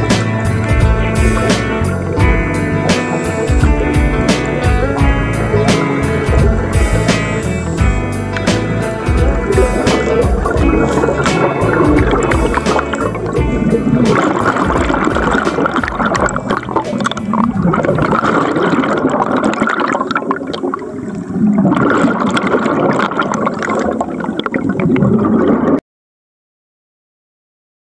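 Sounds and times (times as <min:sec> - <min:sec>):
air bubbles gurgling underwater: 0:00.0 - 0:25.8.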